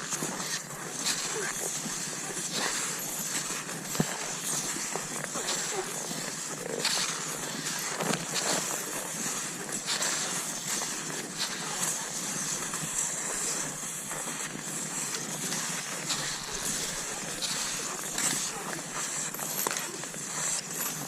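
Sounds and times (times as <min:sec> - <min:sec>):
skis sliding over snow: 0:00.0 - 0:21.0.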